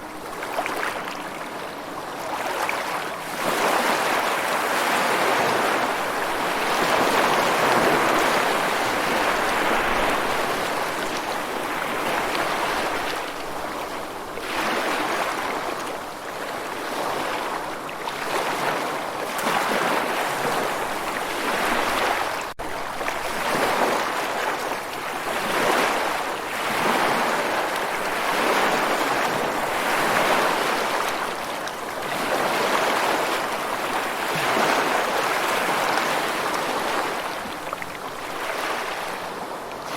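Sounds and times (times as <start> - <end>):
sea waves washing on shore: 0.0 - 39.9.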